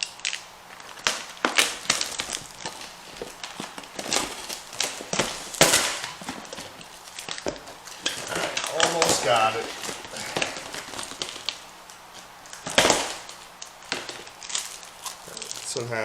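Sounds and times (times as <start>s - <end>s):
plastic clicks taps and crinkles: 0.0s - 15.7s
packaging rustle: 0.0s - 16.0s.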